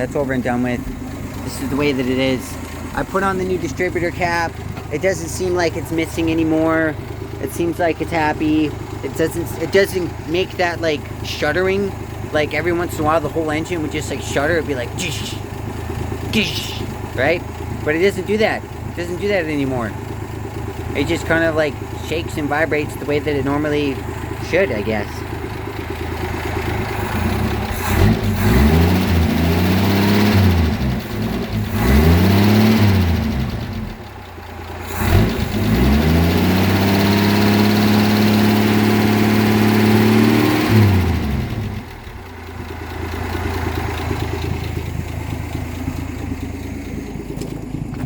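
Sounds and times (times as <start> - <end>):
car engine revving and idling: 0.0 - 48.0.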